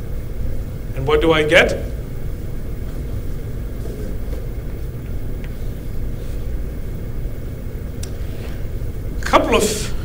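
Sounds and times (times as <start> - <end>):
low room rumble: 0.0 - 10.0.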